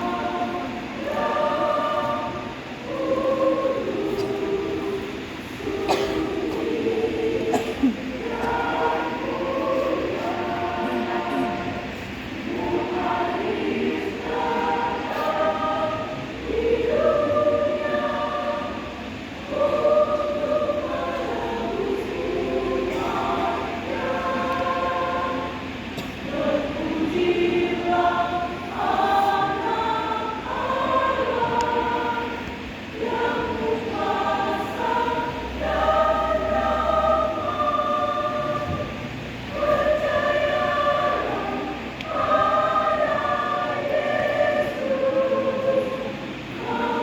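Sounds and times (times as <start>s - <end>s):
choir singing a hymn: 0.0s - 47.0s.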